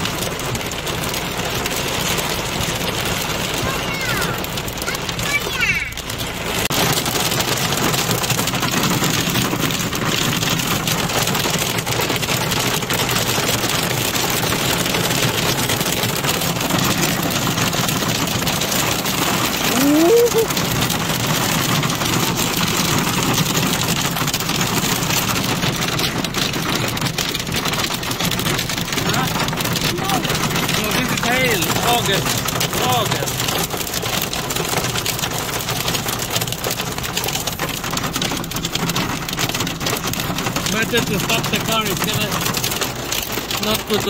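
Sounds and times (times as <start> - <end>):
car road noise: 0.0 - 44.0
hail rattling on car roof: 0.0 - 44.0.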